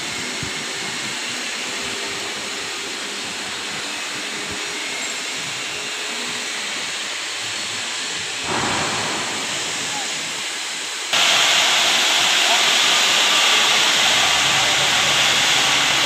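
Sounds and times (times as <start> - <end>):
construction yard background hiss: 0.0 - 16.0.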